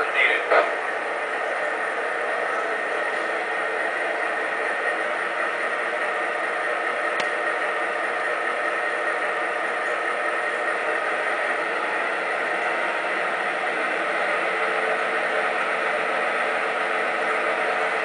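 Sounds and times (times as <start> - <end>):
model diesel engine idling: 0.0 - 18.0.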